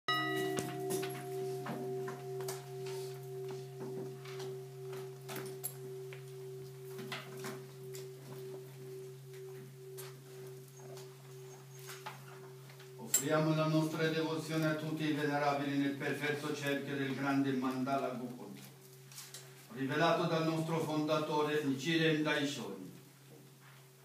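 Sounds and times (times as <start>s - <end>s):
large bowl bell ringing: 0.1s - 21.3s.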